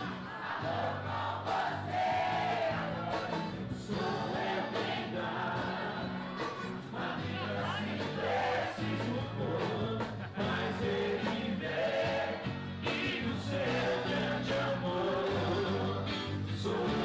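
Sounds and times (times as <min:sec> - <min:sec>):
acoustic guitars and bass playing: 0:00.0 - 0:17.0
several voices singing together: 0:00.0 - 0:17.0.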